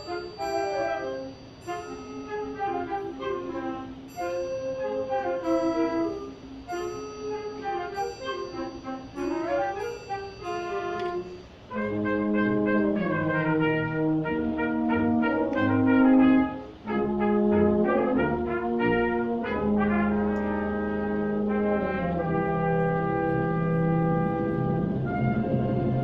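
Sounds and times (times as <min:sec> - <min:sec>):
trumpets and trombones chords: 0:00.0 - 0:26.0
wind band playing: 0:00.0 - 0:26.0.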